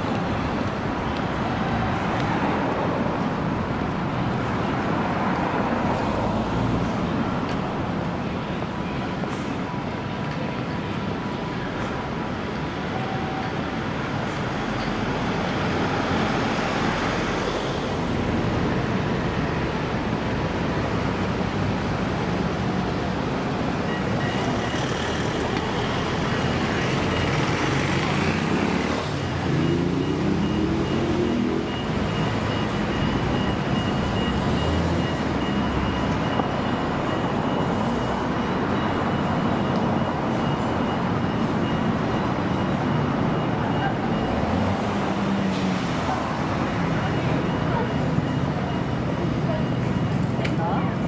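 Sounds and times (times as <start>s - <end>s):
road traffic noise: 0.0s - 51.0s.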